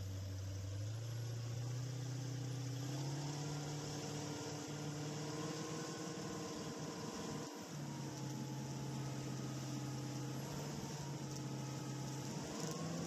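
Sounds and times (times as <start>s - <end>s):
powerboat engine humming: 0.0s - 13.0s.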